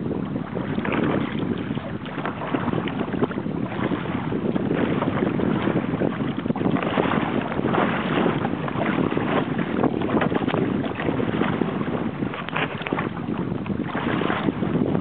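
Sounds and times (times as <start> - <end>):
water splashing against hull: 0.0 - 15.0
wind rushing over microphone: 0.0 - 15.0.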